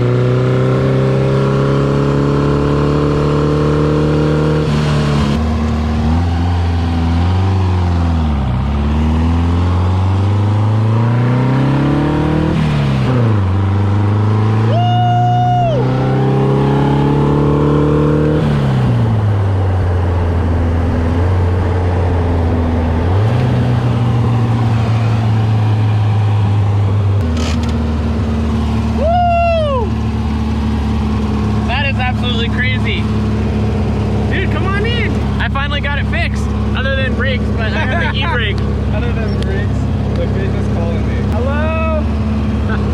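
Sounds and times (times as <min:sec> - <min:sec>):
dune buggy engine revving: 0:00.0 - 0:42.9.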